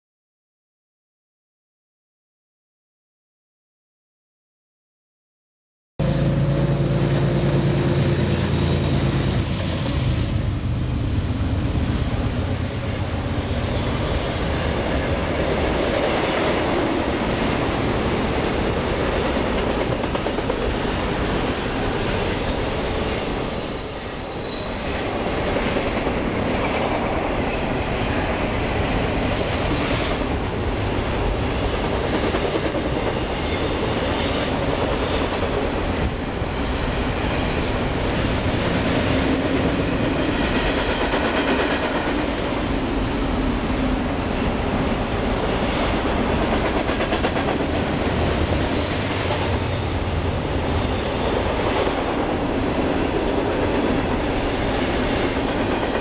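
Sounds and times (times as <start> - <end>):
diesel locomotive engine humming: 6.0 - 56.0
train wheels rumbling on rails: 6.0 - 56.0.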